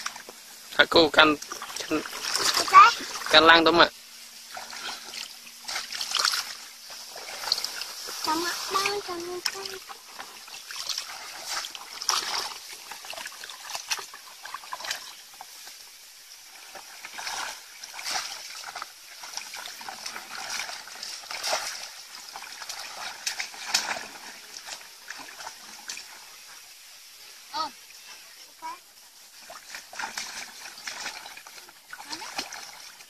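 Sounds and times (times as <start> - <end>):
muddy water splashing: 0.0 - 33.0.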